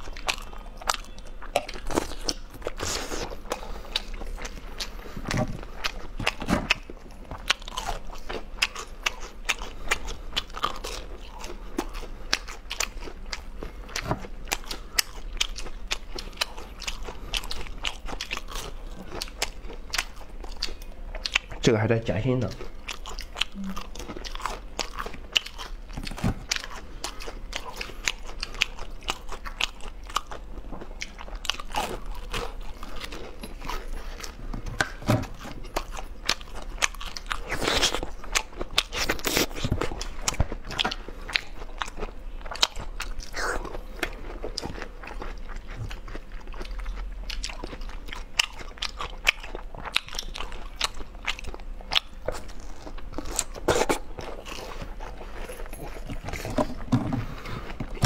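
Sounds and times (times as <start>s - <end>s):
chewing food with crunches: 0.0s - 58.0s.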